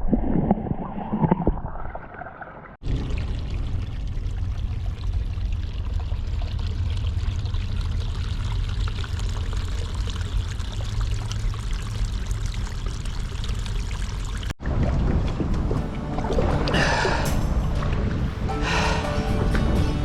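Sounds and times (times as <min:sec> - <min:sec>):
water pouring and splashing: 0:00.0 - 0:19.0.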